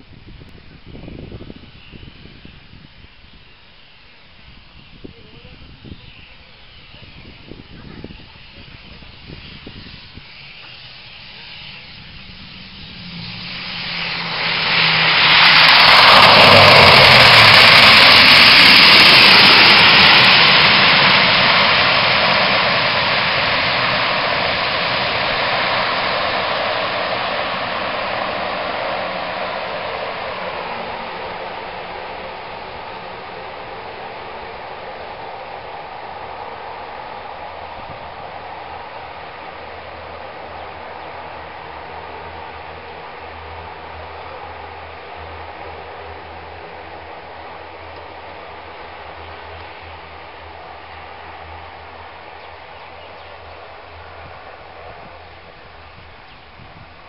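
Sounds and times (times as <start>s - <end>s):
turboprop airliner roar: 0.0s - 57.0s.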